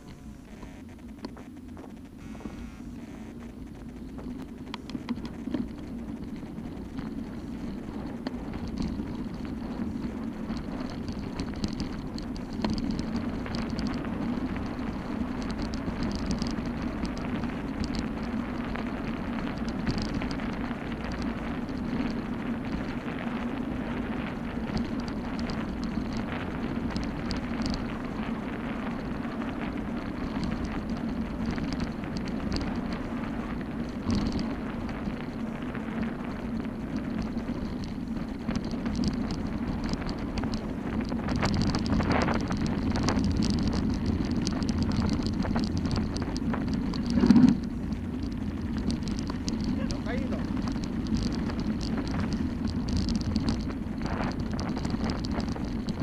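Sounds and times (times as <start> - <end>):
bike rattling: 0.0 - 56.0
bike tyres rumbling on dirt: 0.0 - 56.0
crackling grit: 0.0 - 56.0.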